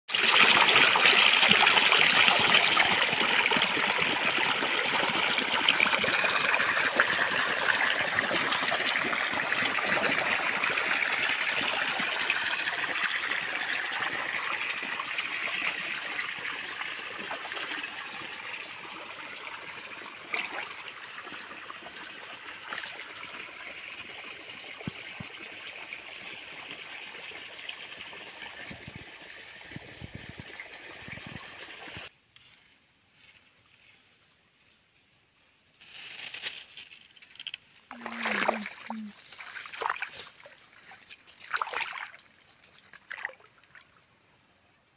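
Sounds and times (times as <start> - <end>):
water pouring into a pool: 0.1 - 32.1, 37.4 - 44.2
water trickling along a channel: 0.1 - 32.2, 36.8 - 44.9.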